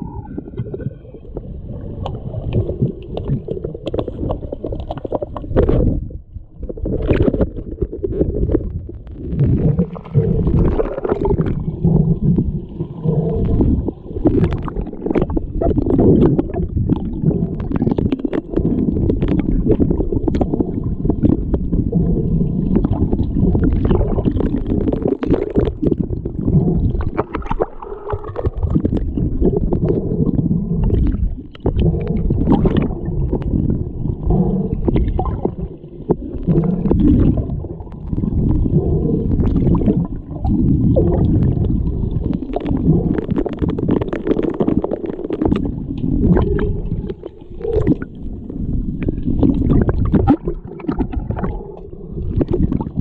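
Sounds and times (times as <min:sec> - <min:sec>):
muffled underwater rumbling and gurgling: 0:00.0 - 0:53.0.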